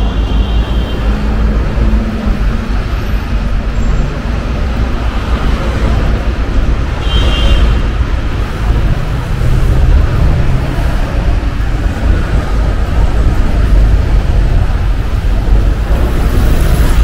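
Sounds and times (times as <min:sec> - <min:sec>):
city street traffic rumbling: 0:00.0 - 0:17.0.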